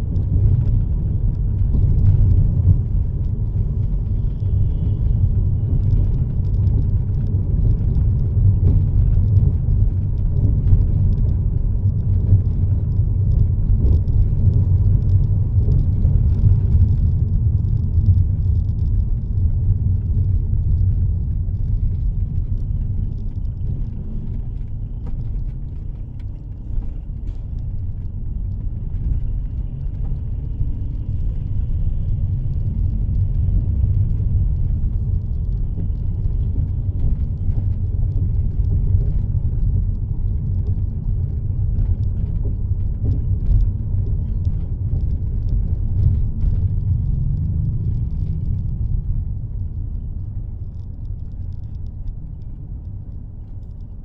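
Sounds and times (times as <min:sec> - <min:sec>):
car engine and road noise in cabin: 0:00.0 - 0:54.0.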